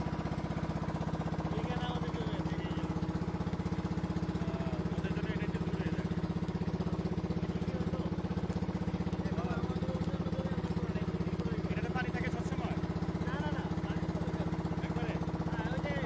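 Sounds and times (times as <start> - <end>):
boat engine chugging: 0.0 - 16.0.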